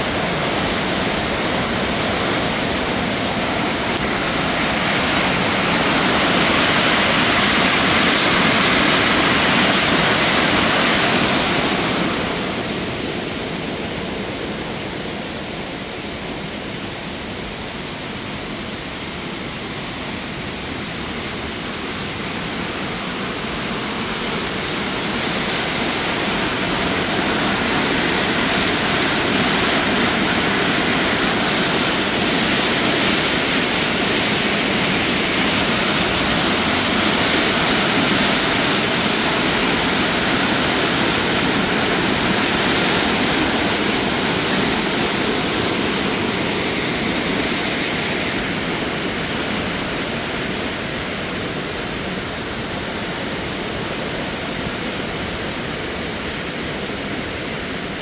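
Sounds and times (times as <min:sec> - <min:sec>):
flooded creek rushing: 0:00.0 - 0:58.0.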